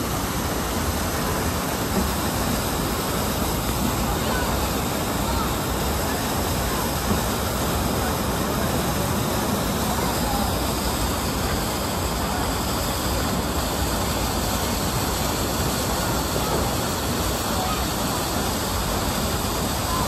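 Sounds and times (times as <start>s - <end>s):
water rushing through channel: 0.0s - 20.0s.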